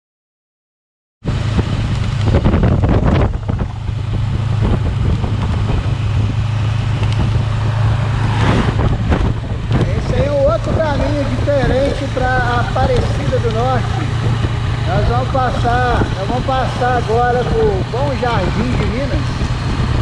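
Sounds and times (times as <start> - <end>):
car engine and tyre hum: 1.2 - 20.0
road and wind noise: 1.2 - 20.0.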